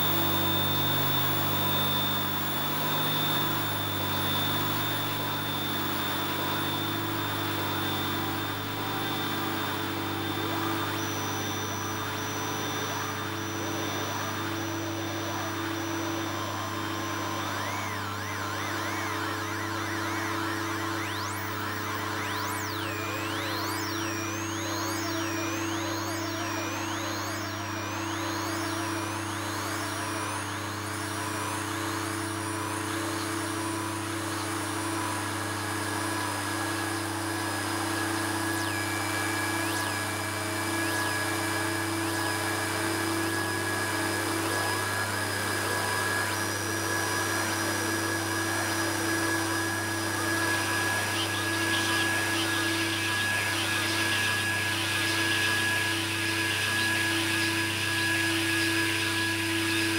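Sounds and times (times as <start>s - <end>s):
droning electronic hum: 0.0s - 59.9s.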